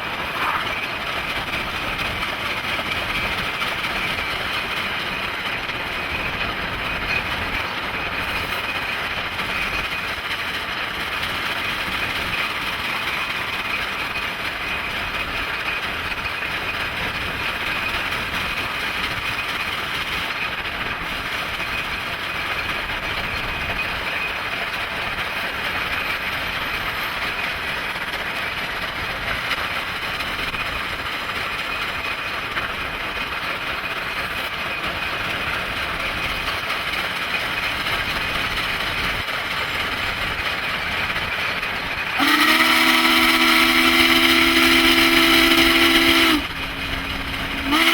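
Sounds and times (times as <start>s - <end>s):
rail noise: 0.0s - 47.9s
steam train rumbling and hissing: 0.0s - 47.9s.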